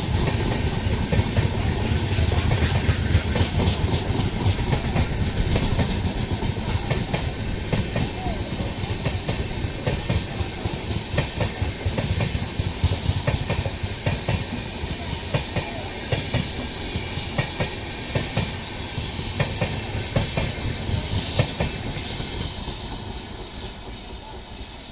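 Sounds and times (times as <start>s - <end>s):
train rumble: 0.0s - 24.9s
train wheels clicking over rail joints: 0.0s - 24.9s.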